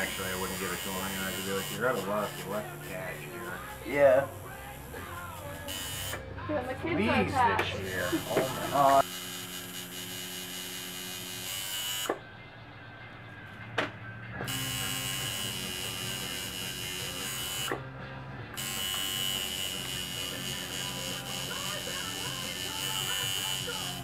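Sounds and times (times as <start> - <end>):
tattoo machine buzzing: 0.0 - 6.3, 7.8 - 12.2, 14.4 - 24.0.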